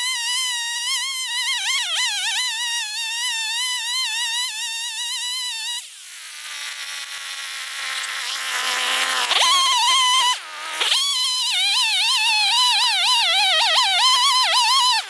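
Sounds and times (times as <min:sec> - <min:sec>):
chainsaw revving: 0:00.0 - 0:15.0.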